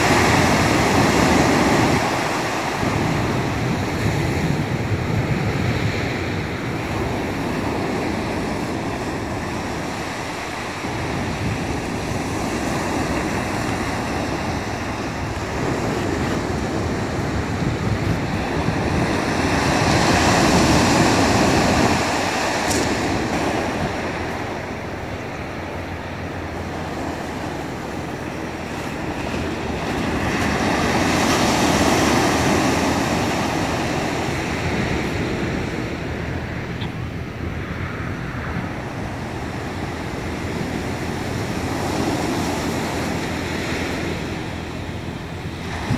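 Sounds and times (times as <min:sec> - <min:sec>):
surf washing up pebble beach: 0:00.0 - 0:45.9.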